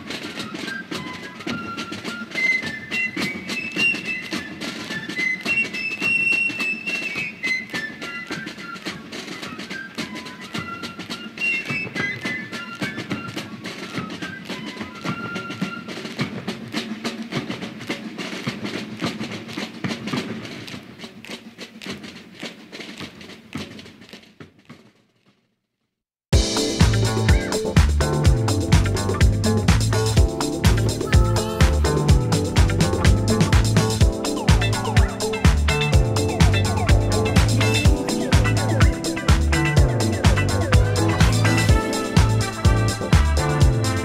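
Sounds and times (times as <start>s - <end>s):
music with percussion beat: 0.0s - 24.3s, 26.4s - 44.0s.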